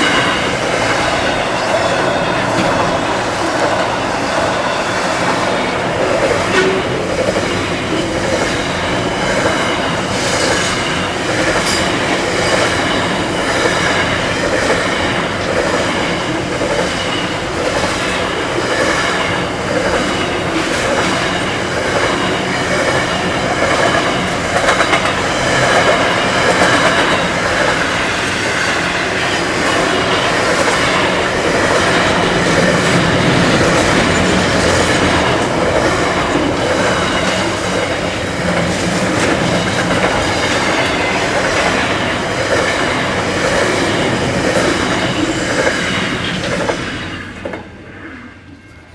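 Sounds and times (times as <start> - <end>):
wheels clacking over rail joints: 0.0 - 47.9
freight train rumbling on rails: 0.0 - 48.9.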